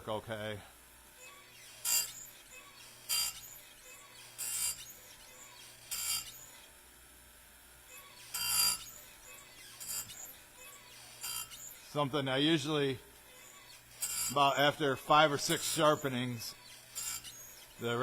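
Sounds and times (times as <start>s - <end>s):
grinder motor humming: 0.8s - 7.1s, 7.8s - 18.0s
grinding wheel on saw chain: 1.5s - 6.7s, 7.9s - 12.7s, 13.4s - 18.0s.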